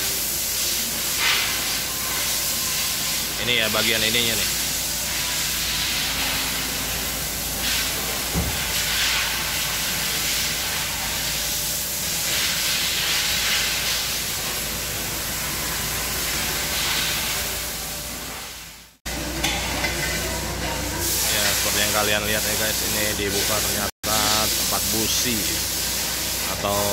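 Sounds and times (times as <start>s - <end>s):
steady hissing noise: 0.0s - 19.0s, 19.9s - 26.9s.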